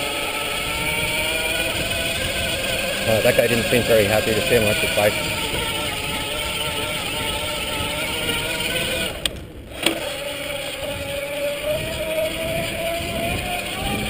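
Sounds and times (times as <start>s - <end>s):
electric bike motor whining: 0.0s - 14.0s.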